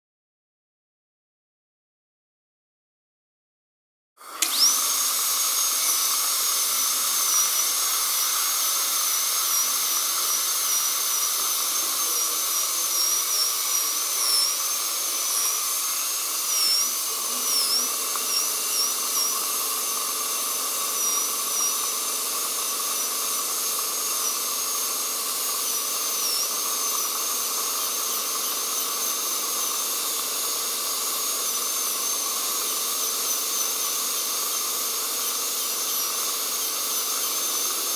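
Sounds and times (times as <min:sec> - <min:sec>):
dental drill whining: 0:04.2 - 0:37.9
dental suction hiss: 0:04.3 - 0:37.9.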